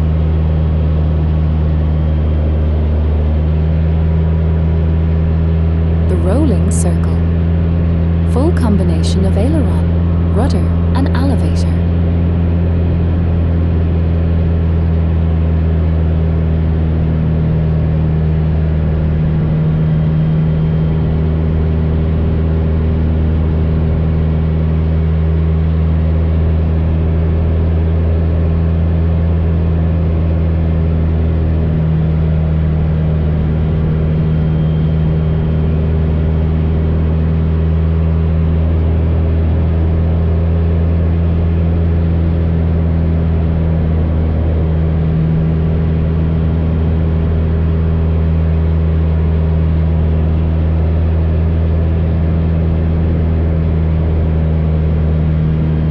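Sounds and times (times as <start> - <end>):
propeller plane engine in flight: 0.0 - 55.9.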